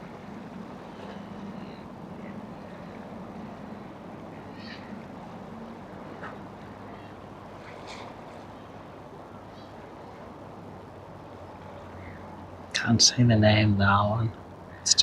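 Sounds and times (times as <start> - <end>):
high bird calls: 0.0 - 12.8
boat engines droning: 0.0 - 15.0.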